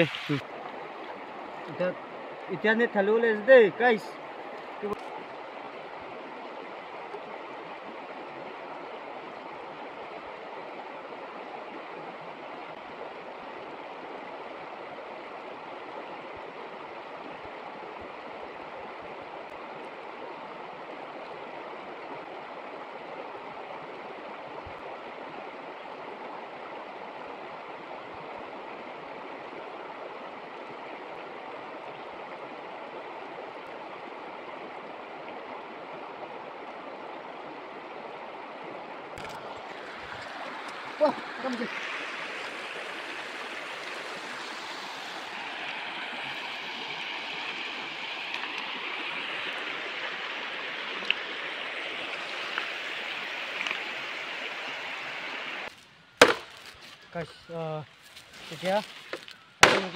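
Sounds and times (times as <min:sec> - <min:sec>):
river water rushing: 0:00.0 - 0:56.6, 0:58.6 - 0:59.9.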